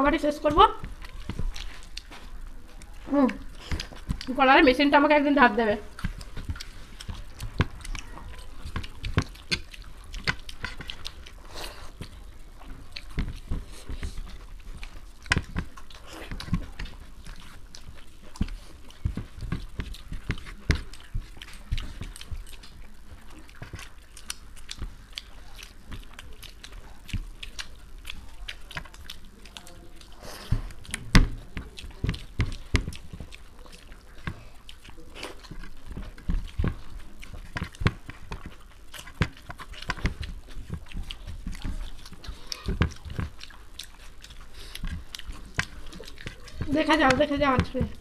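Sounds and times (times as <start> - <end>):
chewing and mouth clicks: 0.0 - 48.0
fingers mixing rice: 0.0 - 48.0.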